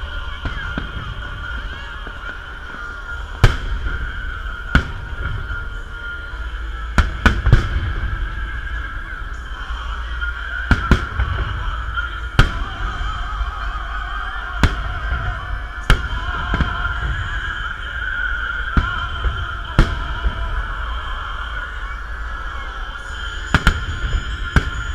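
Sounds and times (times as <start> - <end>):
background music: 0.0 - 24.9
fireworks bursting with sharp bangs: 0.0 - 24.9.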